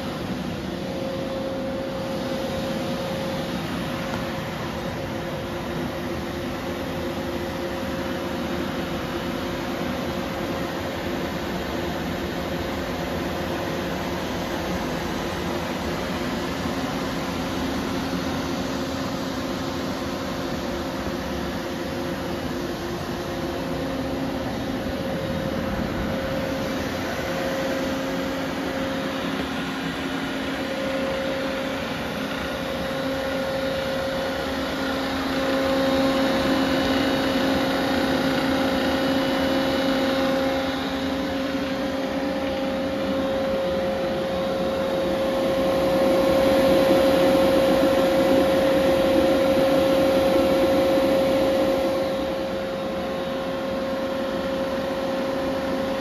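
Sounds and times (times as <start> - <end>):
machine fans and motors humming: 0.0 - 56.0.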